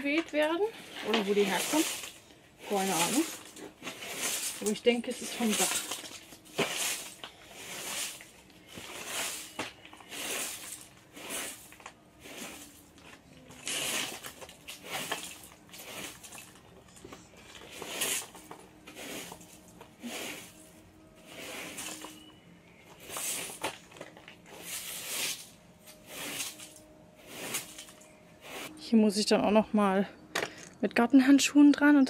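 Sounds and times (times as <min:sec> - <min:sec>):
broom sweeping on paving: 0:00.7 - 0:16.7, 0:17.4 - 0:28.8.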